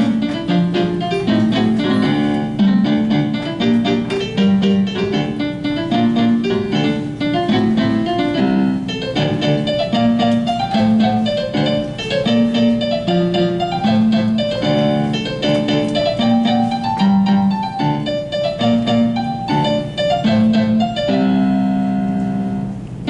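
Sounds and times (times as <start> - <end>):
solo piano: 0.0 - 23.0.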